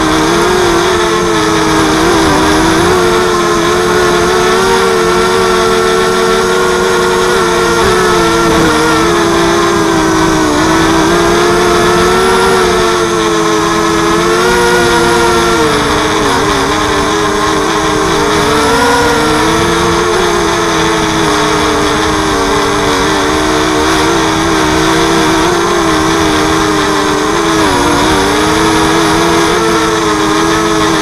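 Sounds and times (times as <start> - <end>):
quadcopter buzzing whine: 0.0 - 31.0.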